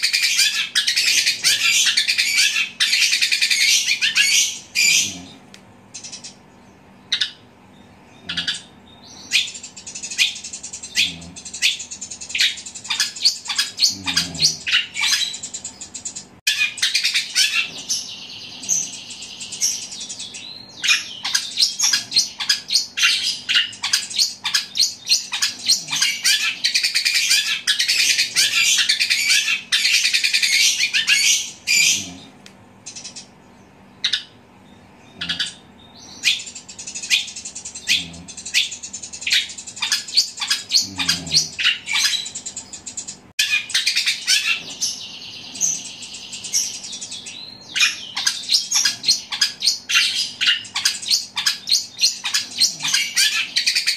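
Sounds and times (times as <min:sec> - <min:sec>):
bird chattering song: 0:00.0 - 0:53.9.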